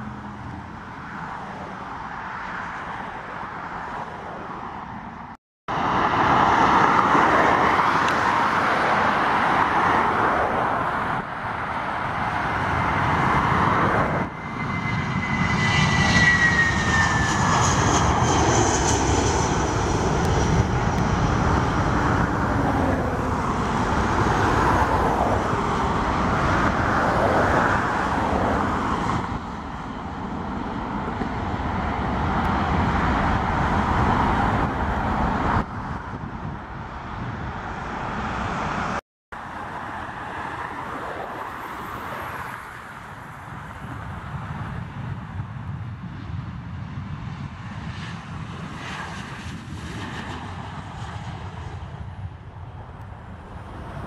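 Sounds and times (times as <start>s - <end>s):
high jet whine gliding downward: 0.0s - 54.0s
jet engines roaring: 0.0s - 54.0s.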